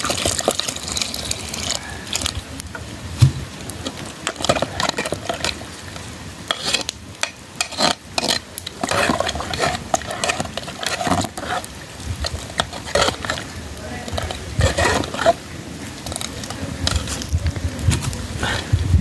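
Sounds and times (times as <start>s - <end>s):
utensil scraping and clinking pot: 0.0s - 2.4s, 3.8s - 5.7s, 6.4s - 18.7s
utensil stirring food in a pot: 0.0s - 2.8s, 3.7s - 18.7s.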